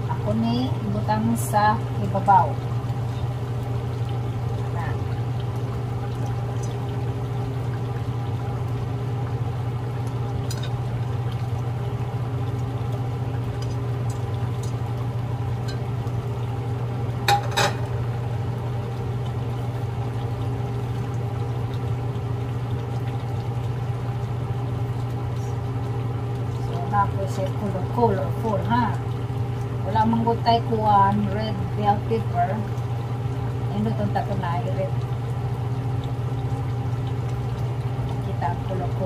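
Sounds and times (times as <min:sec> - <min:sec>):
steady low hum: 0:00.0 - 0:39.0
curry bubbling in pan: 0:00.1 - 0:39.0.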